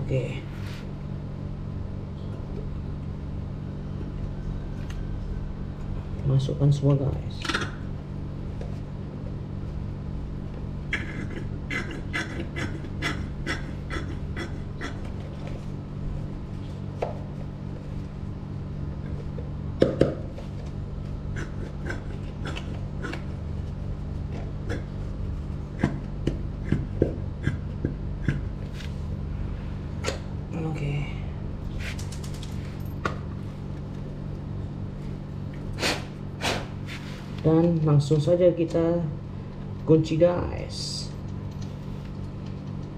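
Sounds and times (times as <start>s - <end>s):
low hum: 0.0s - 42.9s.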